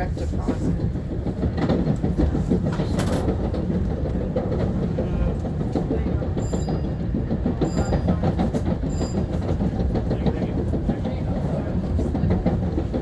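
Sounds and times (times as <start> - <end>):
train rumble with wheel clatter: 0.0 - 13.0.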